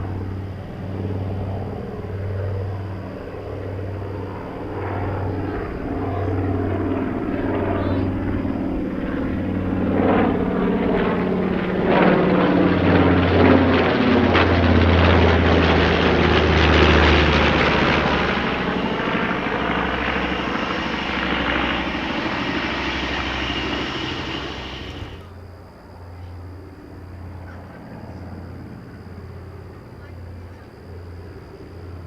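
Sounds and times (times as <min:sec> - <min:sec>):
radial aircraft engines running hard: 0:00.0 - 0:32.0.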